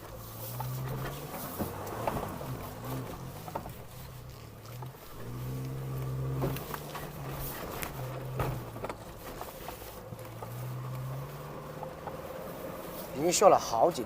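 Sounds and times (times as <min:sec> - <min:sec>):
engine pulling under load: 0:00.0 - 0:14.0.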